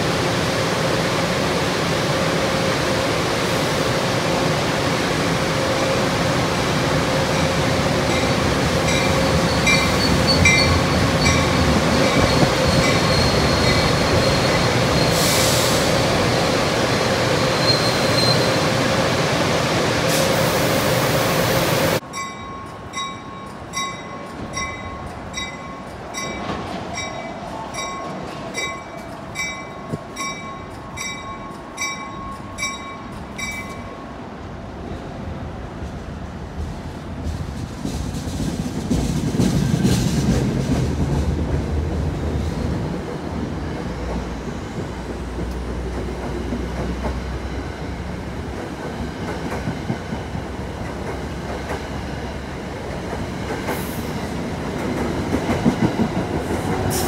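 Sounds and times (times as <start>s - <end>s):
train wheels rolling: 5.3s - 34.0s, 35.7s - 57.0s.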